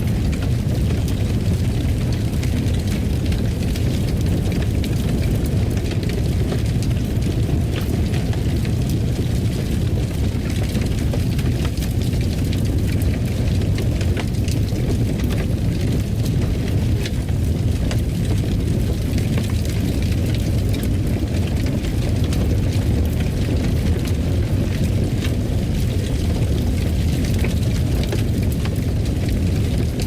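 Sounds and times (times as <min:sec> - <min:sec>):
fireplace fire crackling: 0:00.0 - 0:30.0.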